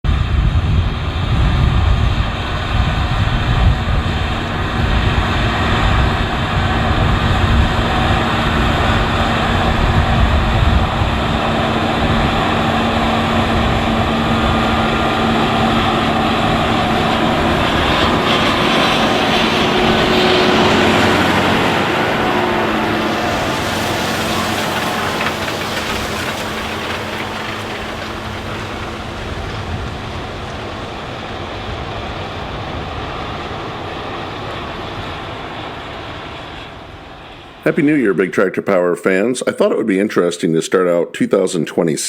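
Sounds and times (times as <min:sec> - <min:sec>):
tractor diesel engine running: 0:00.2 - 0:35.0.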